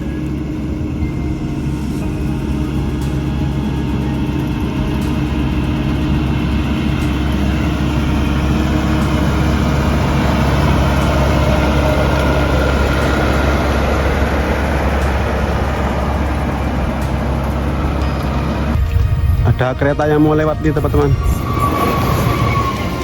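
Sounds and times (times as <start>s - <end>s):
combine harvester engine humming: 0.0s - 23.0s.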